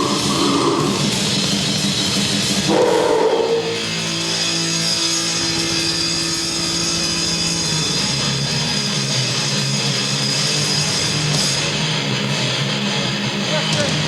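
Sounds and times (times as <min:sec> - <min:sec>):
grindcore band playing: 0:00.0 - 0:14.0.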